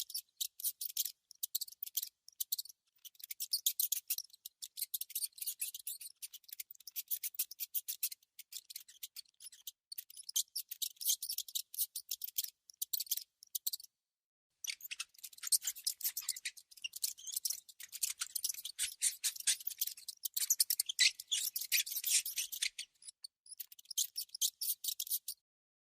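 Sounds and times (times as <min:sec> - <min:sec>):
mouse scratchy clicking: 0:00.0 - 0:13.9, 0:14.6 - 0:25.4.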